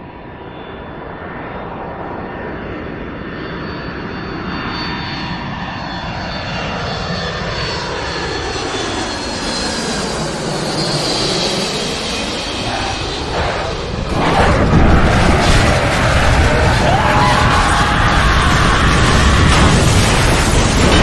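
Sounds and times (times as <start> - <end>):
airplane engine approaching: 0.0 - 21.0.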